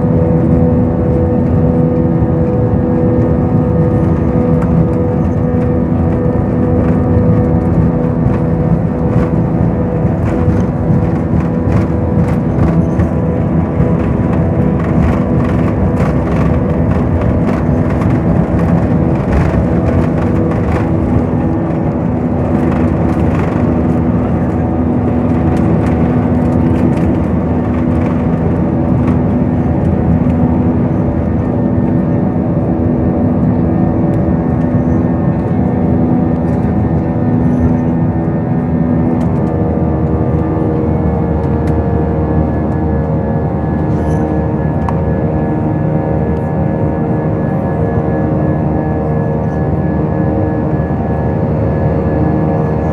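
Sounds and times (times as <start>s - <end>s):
airliner engines droning: 0.0s - 52.9s.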